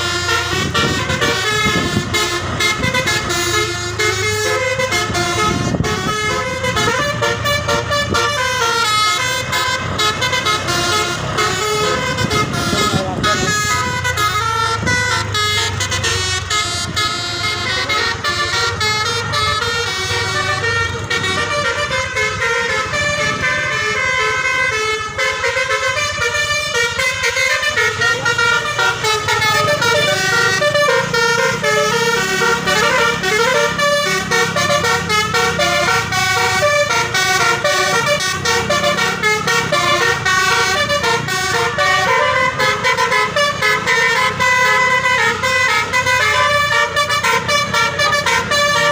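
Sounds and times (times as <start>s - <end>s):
air horns playing fast melody: 0.0s - 48.9s
bus engine running: 0.0s - 48.9s.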